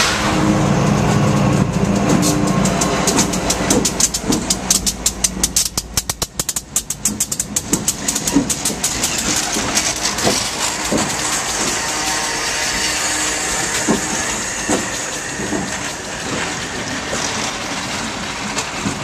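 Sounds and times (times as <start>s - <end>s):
locomotive engine hum: 0.0s - 19.0s
train wheels clicking over rail joints: 0.0s - 19.0s.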